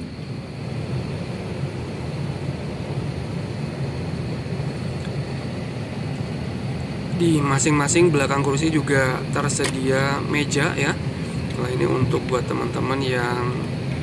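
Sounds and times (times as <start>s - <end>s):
cabin ventilation hum: 0.0s - 14.0s
faint high whine: 0.0s - 14.0s.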